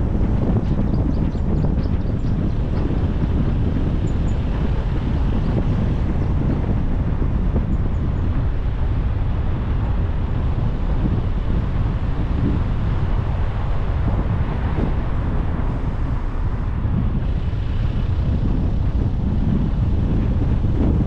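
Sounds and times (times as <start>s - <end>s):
road and wind noise: 0.0s - 21.0s
wind buffeting microphone: 0.0s - 21.0s.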